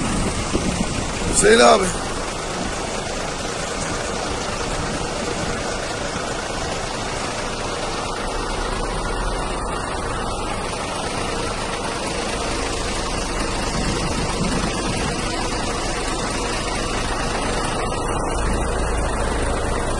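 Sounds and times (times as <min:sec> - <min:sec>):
truck diesel engine idling: 0:00.0 - 0:19.9.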